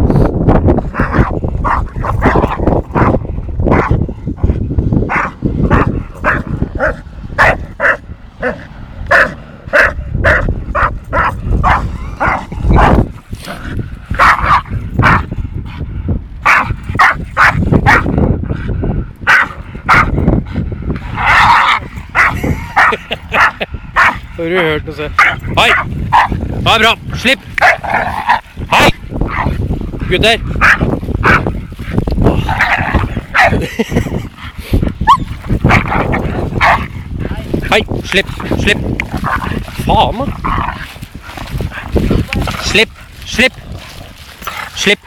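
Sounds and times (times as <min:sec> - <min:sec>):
dogs growling: 0:00.8 - 0:24.4, 0:25.1 - 0:45.0
dogs barking and yipping: 0:01.0 - 0:13.3, 0:14.1 - 0:15.4, 0:16.4 - 0:18.2, 0:19.2 - 0:20.4, 0:21.0 - 0:24.3, 0:25.2 - 0:26.4, 0:27.4 - 0:37.3, 0:38.1 - 0:43.2.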